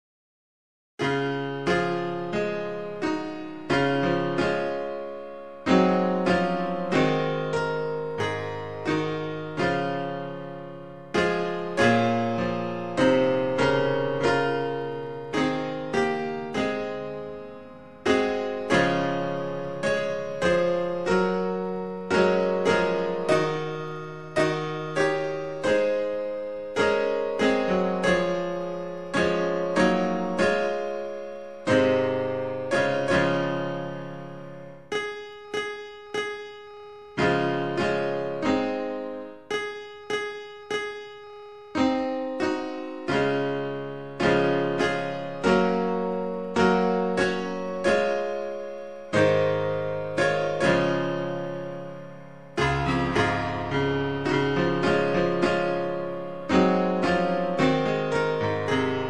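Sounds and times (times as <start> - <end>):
solo piano slow piece: 1.0 - 59.0.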